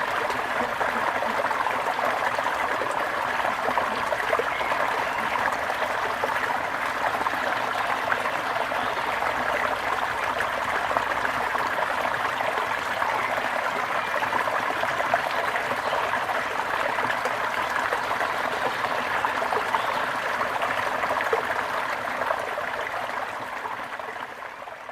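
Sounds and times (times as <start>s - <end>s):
water trickling and splashing: 0.0s - 24.9s.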